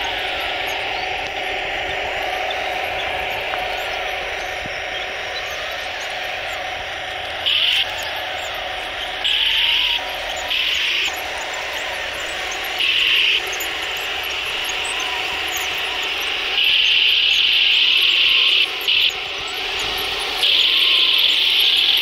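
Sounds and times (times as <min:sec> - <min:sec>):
high whine bursts: 0:00.0 - 0:22.0
model tank engine drone: 0:00.0 - 0:22.0.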